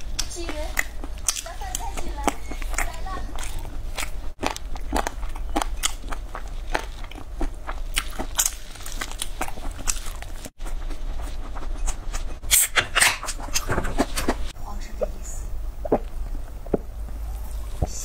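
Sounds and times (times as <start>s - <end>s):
crunchy biting and chewing: 0.0s - 14.6s.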